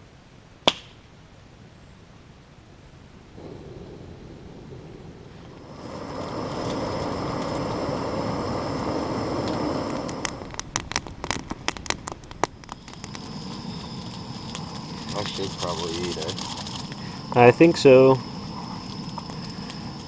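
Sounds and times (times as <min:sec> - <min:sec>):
gas stove burning hiss: 0:00.0 - 0:20.0.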